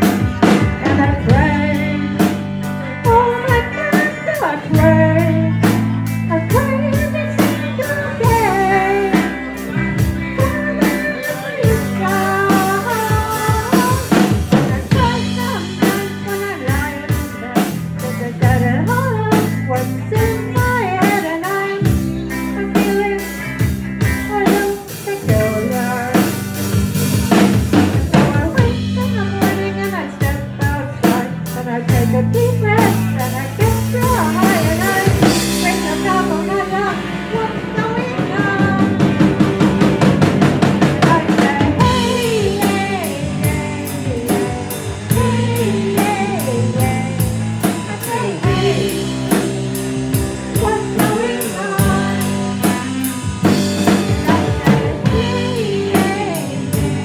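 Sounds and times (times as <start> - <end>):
bass notes: 0.0 - 57.0
drum kit beat: 0.0 - 57.0
lead melody line: 0.0 - 57.0
live band playing: 0.0 - 57.0.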